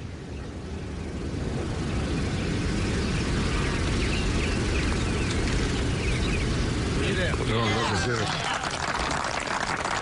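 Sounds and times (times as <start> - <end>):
low rumble with hiss: 0.0 - 10.0.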